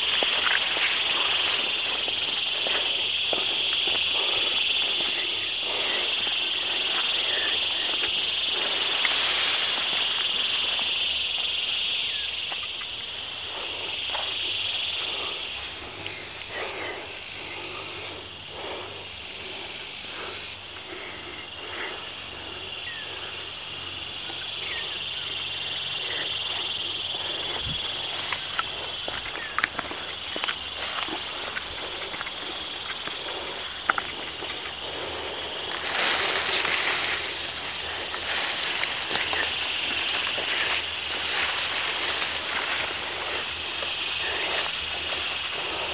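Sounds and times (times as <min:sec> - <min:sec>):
footsteps through undergrowth: 0:00.0 - 0:45.9
insects droning: 0:00.0 - 0:45.9.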